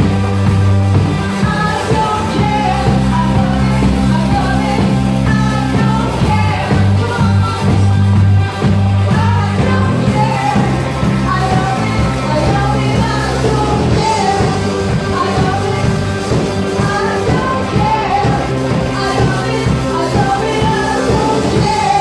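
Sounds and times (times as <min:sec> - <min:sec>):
drums: 0:00.0 - 0:22.0
electric guitar: 0:00.0 - 0:22.0
heavy bass guitar: 0:00.0 - 0:22.0
person singing: 0:01.0 - 0:22.0.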